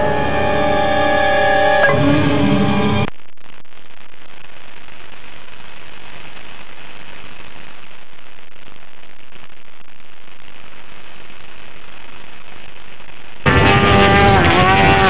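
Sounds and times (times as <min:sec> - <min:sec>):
videotape static hiss: 0:02.7 - 0:15.0.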